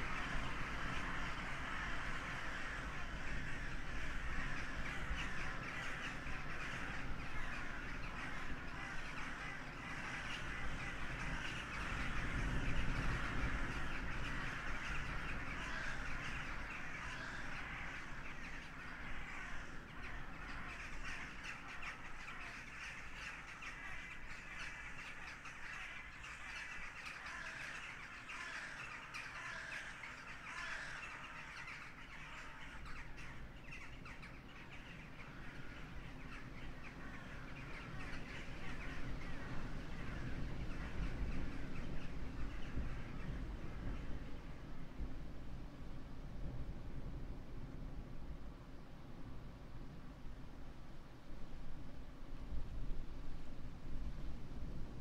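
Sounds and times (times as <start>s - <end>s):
wind rumble on microphone: 0.0s - 27.7s, 30.6s - 55.0s
crows cawing: 0.0s - 44.3s.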